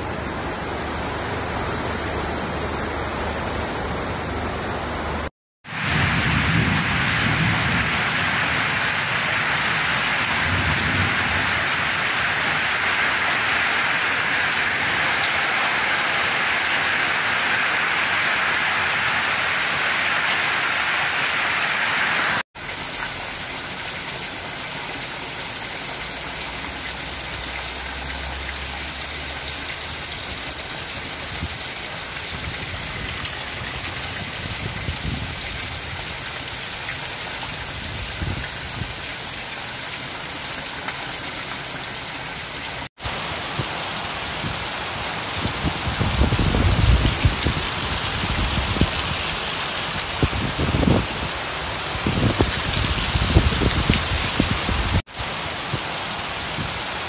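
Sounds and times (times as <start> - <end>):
heavy rain on metal roof: 0.0 - 57.0
water streaming off roof: 5.6 - 57.0.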